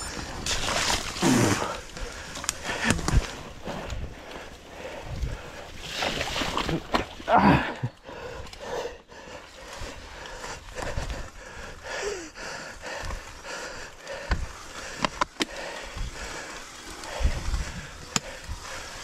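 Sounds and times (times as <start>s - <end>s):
bike tyres rolling on rough track: 0.0s - 19.0s
rider breathing hard: 1.1s - 6.0s, 7.6s - 19.0s.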